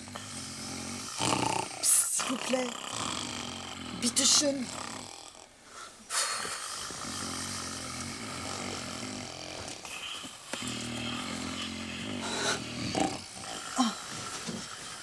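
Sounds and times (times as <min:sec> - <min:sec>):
person snoring: 0:00.0 - 0:05.5, 0:06.1 - 0:15.0.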